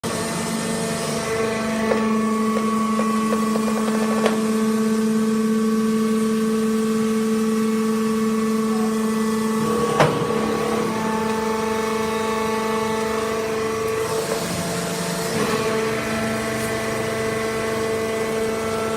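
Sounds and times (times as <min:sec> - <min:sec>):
hydraulic press whine: 0:00.0 - 0:18.9.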